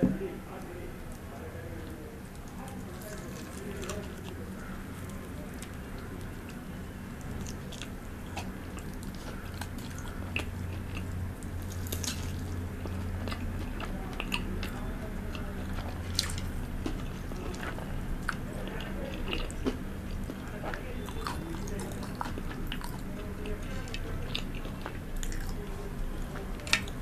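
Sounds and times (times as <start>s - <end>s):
steady low hum: 0.0s - 27.0s
crunchy chewing of fried chicken: 0.3s - 27.0s.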